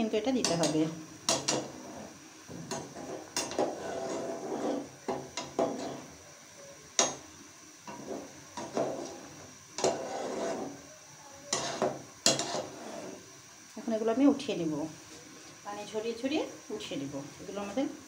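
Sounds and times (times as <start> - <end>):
boiling water bubbling: 0.0 - 15.8.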